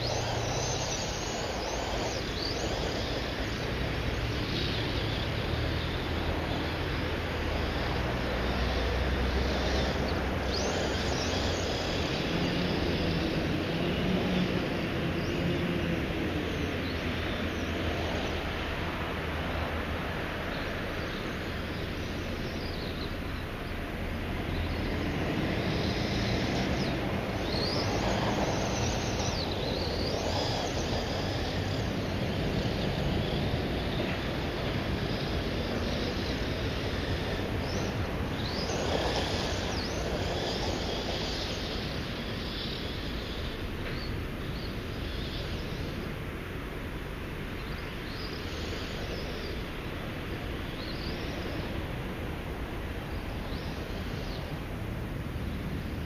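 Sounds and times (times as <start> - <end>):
steady rushing background noise: 0.0 - 56.0.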